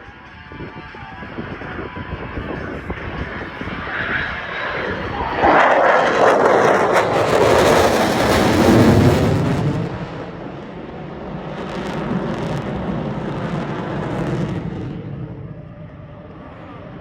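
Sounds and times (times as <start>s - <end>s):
jet flyby roar: 0.3s - 17.0s.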